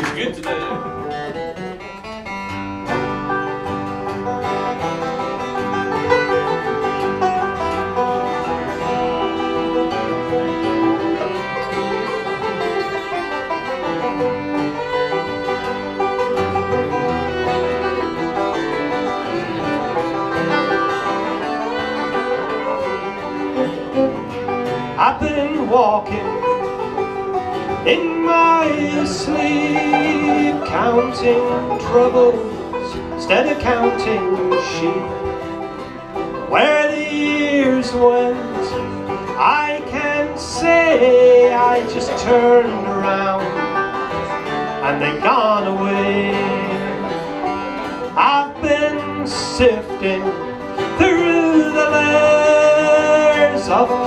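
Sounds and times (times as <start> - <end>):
banjo picking: 0.0 - 54.0
strummed acoustic guitar: 0.0 - 54.0
bowed fiddle: 0.8 - 54.0.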